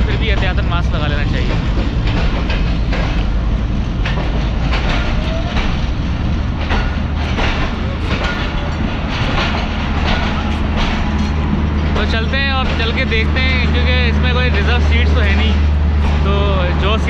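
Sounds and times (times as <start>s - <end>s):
diesel locomotive engine rumbling: 0.0s - 17.0s
footsteps on footbridge: 0.0s - 17.0s.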